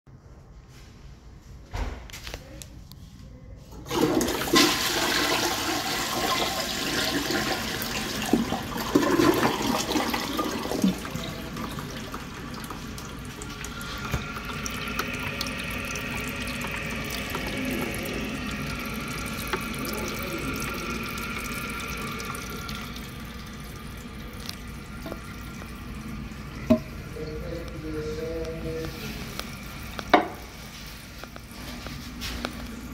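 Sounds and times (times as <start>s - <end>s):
toilet flushing: 3.8s - 32.9s
toilet tank refilling hiss: 3.8s - 32.9s.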